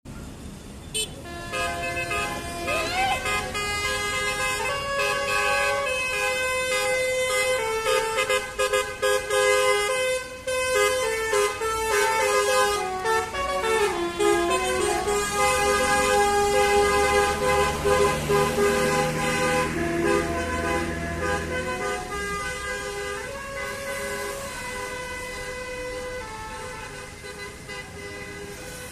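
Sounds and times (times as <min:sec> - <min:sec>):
multi-tone bus air horn melody: 0:00.9 - 0:28.9.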